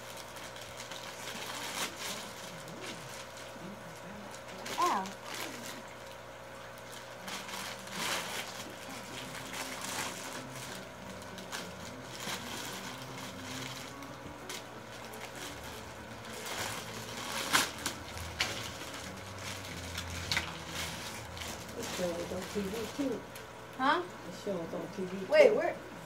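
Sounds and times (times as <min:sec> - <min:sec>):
plastic bags crinkling: 0:00.0 - 0:23.5.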